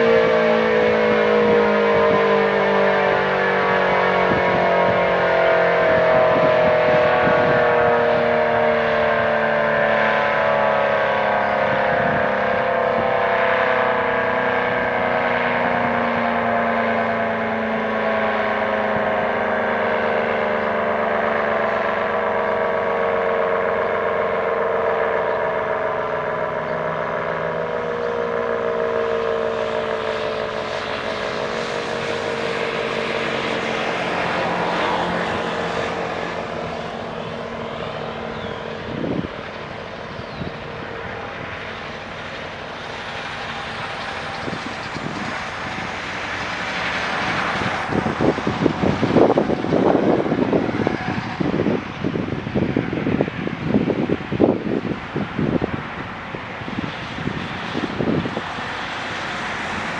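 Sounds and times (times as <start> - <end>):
warning siren wailing: 0.0 - 59.9.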